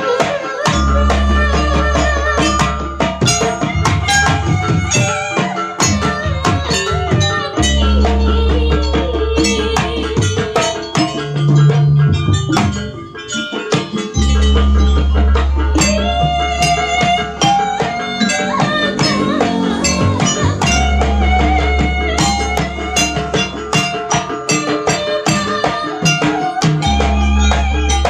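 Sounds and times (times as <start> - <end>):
drums and struck percussion: 0.0 - 28.0
wavering melody line: 0.0 - 28.0.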